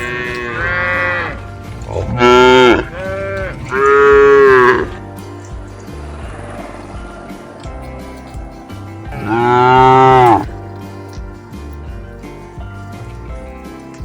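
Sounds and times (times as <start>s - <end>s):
cattle mooing: 0.0s - 14.0s.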